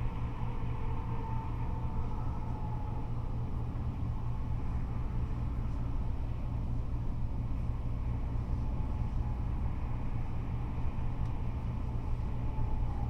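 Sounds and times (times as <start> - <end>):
freeway traffic rumble: 0.0 - 13.0.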